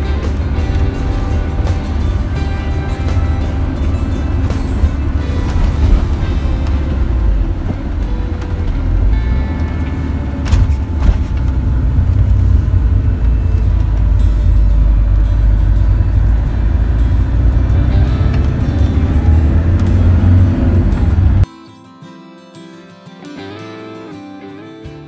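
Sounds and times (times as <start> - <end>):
engine and road rumble: 0.0 - 21.5
faint music: 0.0 - 25.0.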